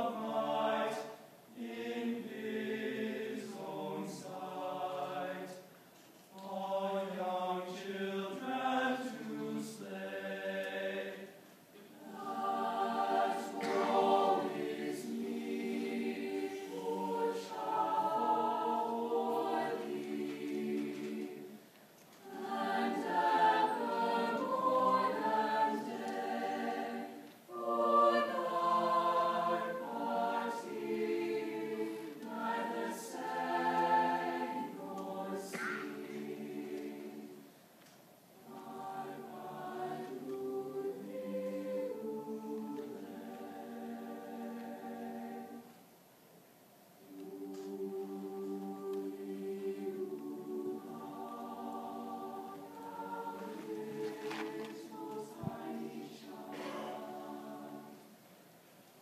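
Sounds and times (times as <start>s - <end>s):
choir singing: 0.0s - 37.6s, 38.4s - 45.9s, 47.0s - 58.6s.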